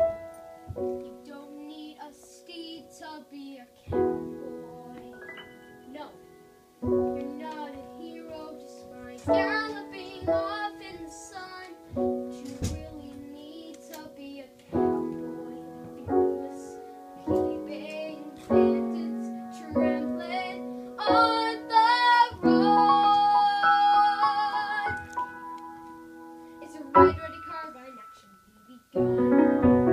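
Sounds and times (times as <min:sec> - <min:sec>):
instrumental chord accompaniment: 0:00.0 - 0:29.9
boy singing: 0:01.0 - 0:05.3, 0:05.9 - 0:06.2, 0:07.1 - 0:25.2, 0:26.6 - 0:29.4.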